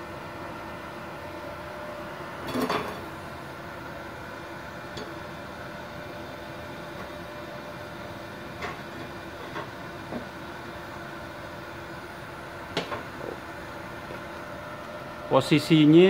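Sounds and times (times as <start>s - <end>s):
welder fan hum: 0.0s - 16.0s.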